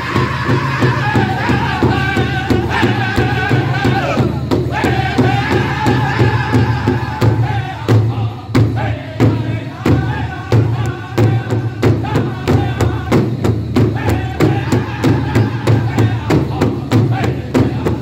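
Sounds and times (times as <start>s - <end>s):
group singing in high unison: 0.0s - 18.0s
large hide drum beat: 0.0s - 18.0s.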